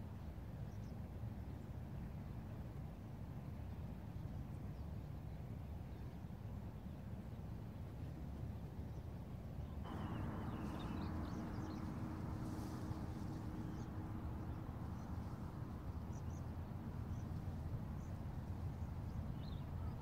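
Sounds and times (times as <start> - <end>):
wind rumble on microphone: 0.1 - 20.0.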